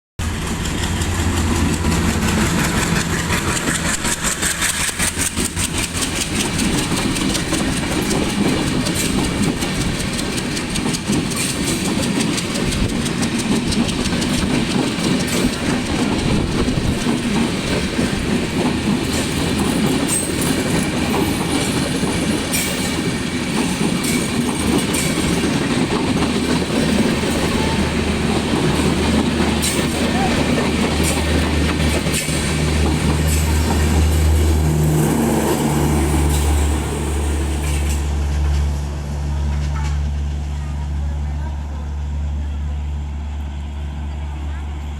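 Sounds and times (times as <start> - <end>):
train wheels clattering over rail joints: 0.2 - 40.5
diesel locomotive engine: 0.2 - 44.9.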